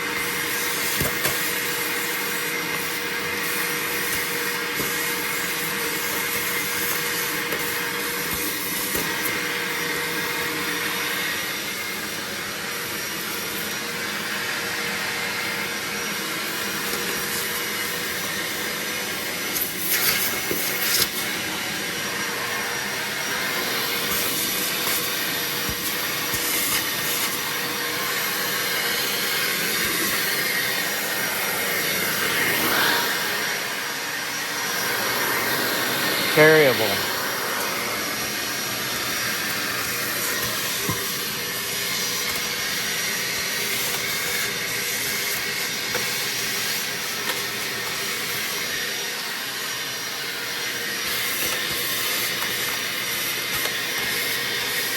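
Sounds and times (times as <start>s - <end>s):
shop vacuum motor whine: 0.0s - 54.9s.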